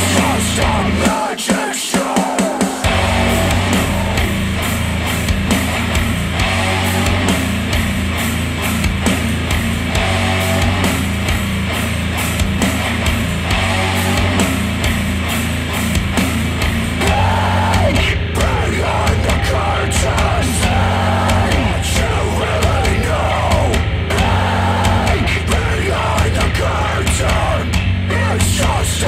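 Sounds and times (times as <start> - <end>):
heavy rock music through speakers: 0.0 - 29.0.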